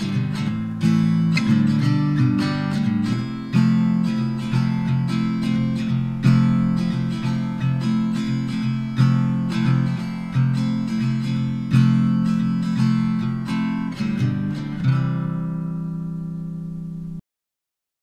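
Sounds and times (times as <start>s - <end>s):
acoustic guitar strumming: 0.0s - 17.2s.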